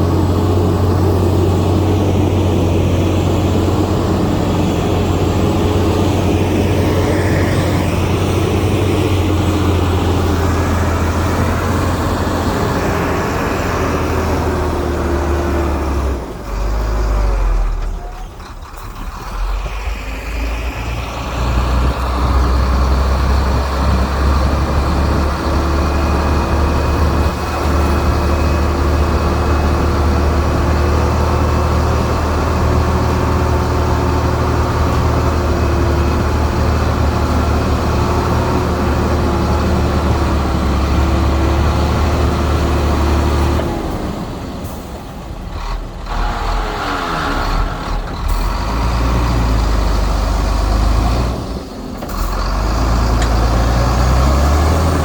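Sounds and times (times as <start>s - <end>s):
heavy diesel machinery rumbling: 0.0s - 55.0s.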